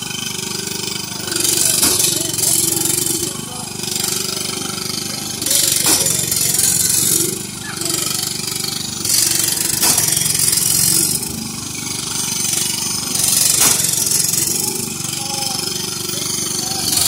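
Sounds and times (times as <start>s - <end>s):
lawn mower engines running: 0.0s - 17.0s.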